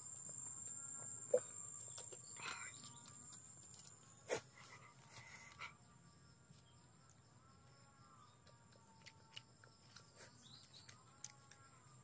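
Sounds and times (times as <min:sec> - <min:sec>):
high-pitched insect whine: 0:00.0 - 0:12.0.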